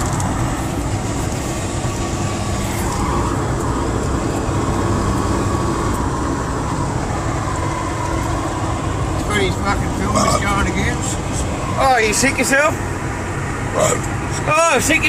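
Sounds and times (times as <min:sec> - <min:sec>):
vehicle engine and tyres droning: 0:00.0 - 0:15.0.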